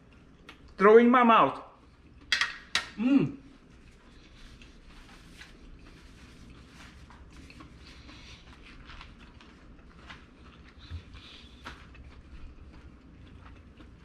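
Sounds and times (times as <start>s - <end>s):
person chewing: 0.0s - 0.8s, 1.8s - 14.0s
low steady hum: 0.0s - 14.0s.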